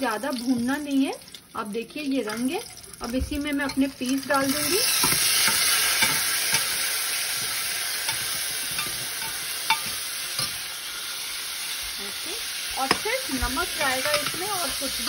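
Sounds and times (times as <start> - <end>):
peas sizzling in hot fat: 0.0 - 15.0.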